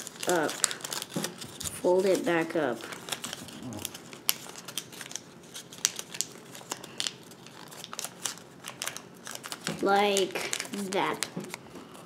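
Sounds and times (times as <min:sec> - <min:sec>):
paper folding and crinkling: 0:00.0 - 0:12.0.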